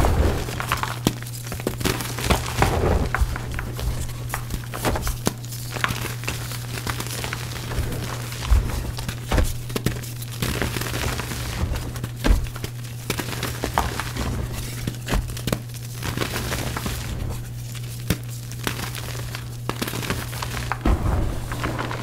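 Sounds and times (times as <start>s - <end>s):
chalk crunching and crackling: 0.0s - 22.0s
steady low hum: 0.0s - 22.0s.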